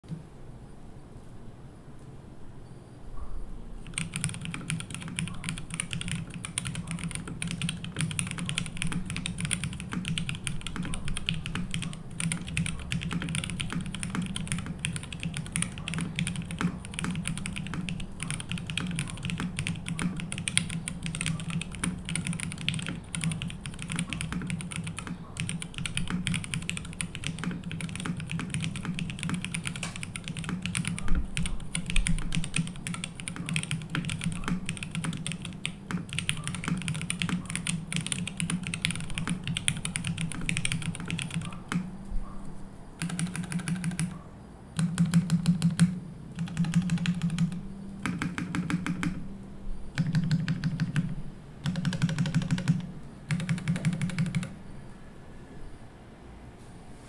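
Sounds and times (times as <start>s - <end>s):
mechanical keyboard typing: 3.8s - 41.9s, 43.0s - 44.2s, 44.8s - 49.2s, 50.0s - 54.6s.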